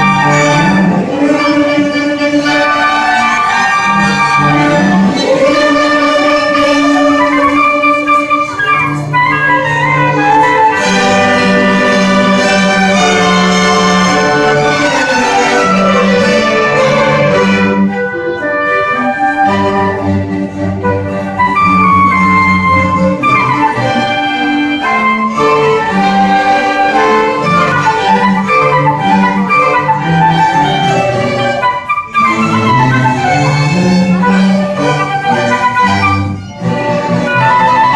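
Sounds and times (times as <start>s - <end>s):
orchestra playing classical music: 0.0s - 37.9s.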